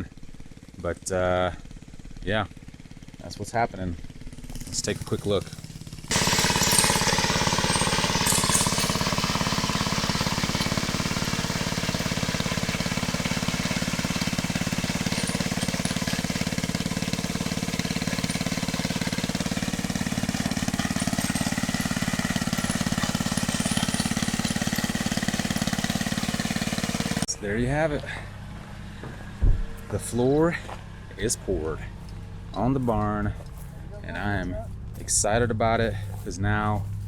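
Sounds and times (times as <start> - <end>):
engine running with fast pulse: 0.0 - 37.0.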